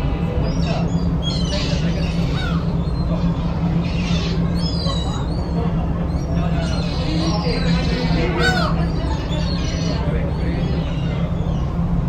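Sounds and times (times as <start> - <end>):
ferry engine hum: 0.0 - 12.0
gulls crying: 0.0 - 12.0.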